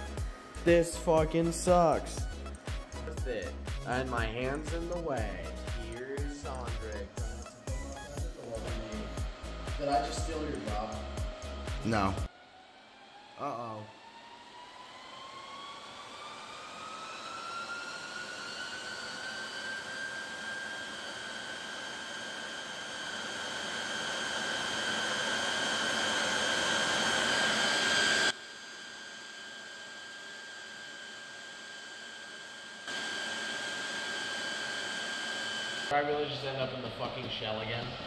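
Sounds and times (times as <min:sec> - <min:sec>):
server cooling fans whirring: 0:00.0 - 0:32.0.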